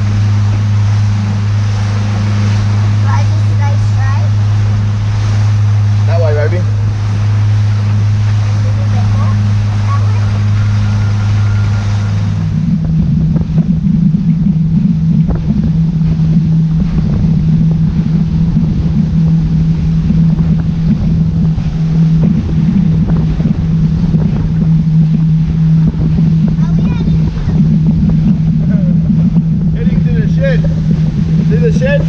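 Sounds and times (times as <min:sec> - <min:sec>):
outboard motor running at speed: 0:00.0 - 0:32.0
wind buffeting microphone: 0:00.0 - 0:32.0.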